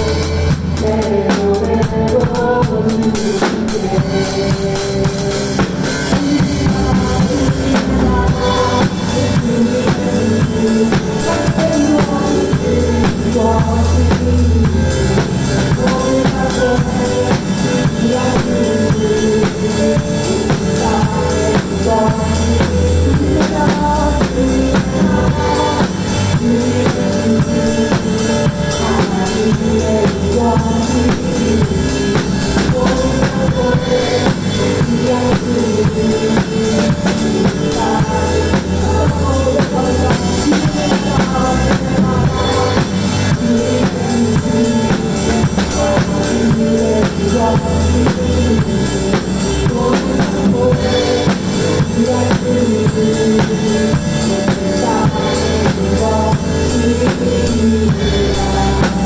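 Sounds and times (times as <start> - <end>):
drum kit playing: 0.0 - 59.0
recorded worship song: 0.0 - 59.0.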